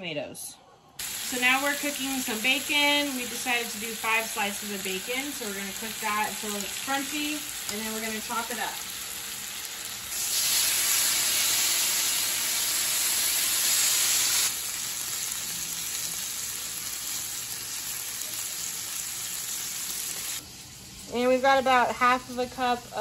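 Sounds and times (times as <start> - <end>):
bacon sizzling on a griddle: 1.0 - 23.0.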